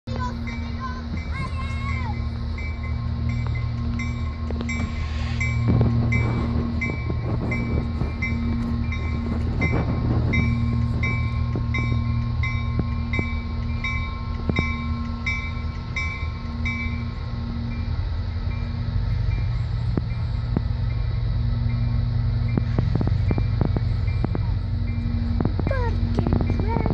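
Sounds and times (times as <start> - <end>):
diesel locomotive engine hum: 0.0 - 26.9
locomotive bell ringing: 0.1 - 26.9
wheels clicking on rails: 0.1 - 26.9.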